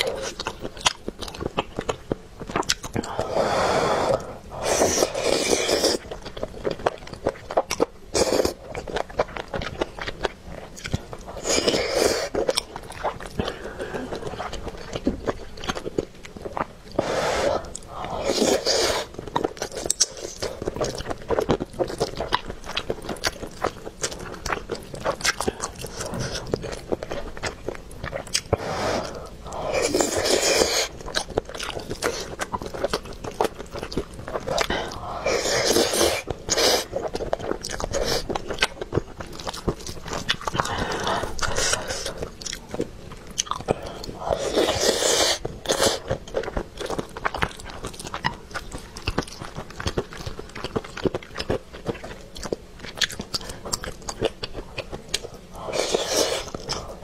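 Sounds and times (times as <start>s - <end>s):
wet chewing: 0.0s - 57.0s.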